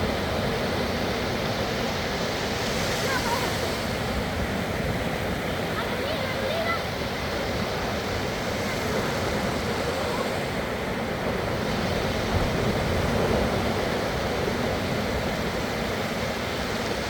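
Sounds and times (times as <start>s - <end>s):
sea waves washing on sand: 0.0s - 17.0s.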